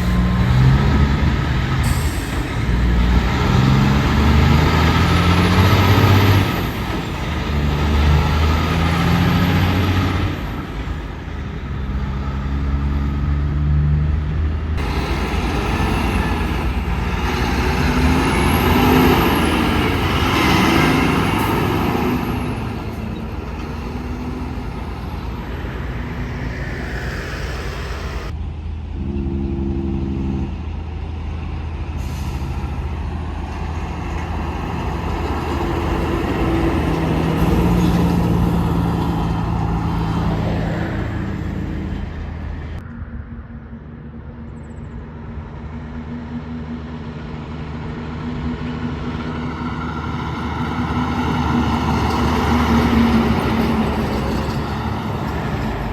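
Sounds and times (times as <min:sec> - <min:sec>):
road noise: 0:00.0 - 0:55.9
trucks engines droning: 0:00.0 - 0:55.9.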